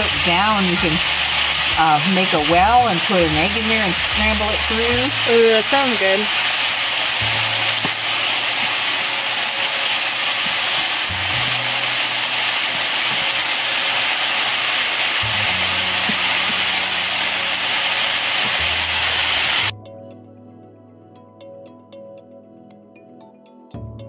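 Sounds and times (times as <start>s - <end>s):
food sizzling in a skillet: 0.0s - 19.7s.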